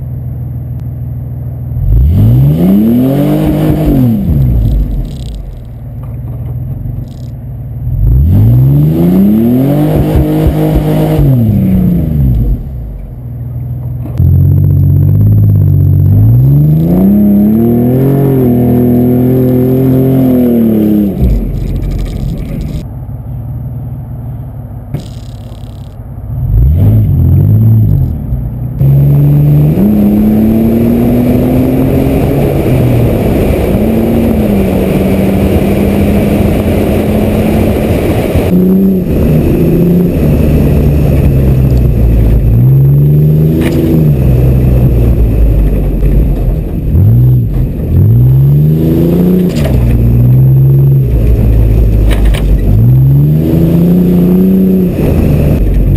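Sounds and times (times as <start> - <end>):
wind and tyre noise: 0.0 - 55.9
vehicle engine revving: 1.7 - 55.9.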